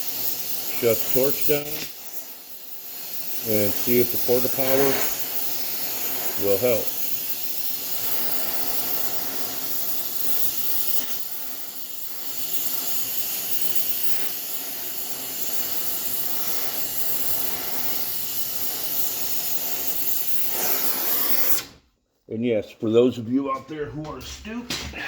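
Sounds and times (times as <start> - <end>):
torch flame hissing: 0.0 - 21.8.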